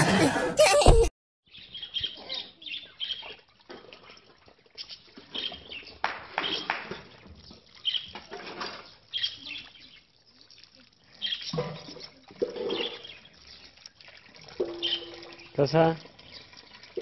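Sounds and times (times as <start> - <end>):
small birds chirping: 1.5 - 17.0
water splashing in a tub: 1.7 - 17.0.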